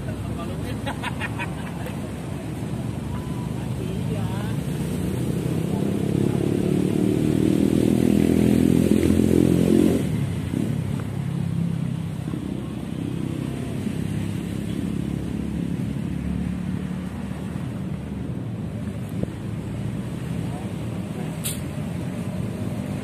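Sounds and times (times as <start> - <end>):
passing vehicle engine: 0.0 - 23.0
steady traffic hum: 0.0 - 23.0.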